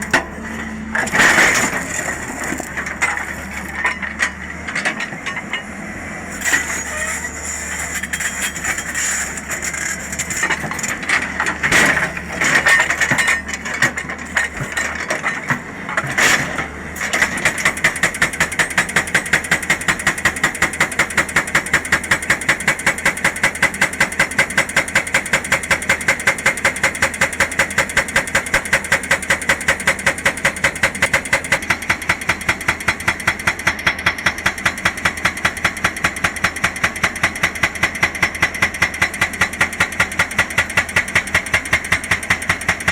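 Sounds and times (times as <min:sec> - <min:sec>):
hydraulic rock breaker hammering: 0:00.0 - 0:05.8, 0:06.4 - 0:42.9
diesel engine running: 0:00.0 - 0:42.9.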